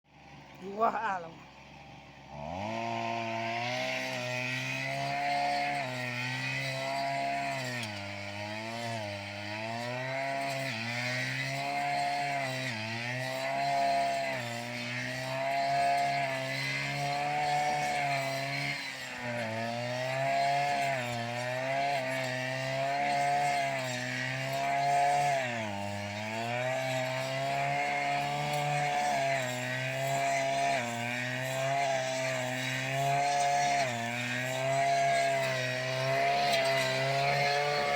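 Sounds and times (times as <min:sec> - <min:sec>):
small petrol engine running: 0:00.1 - 0:37.9.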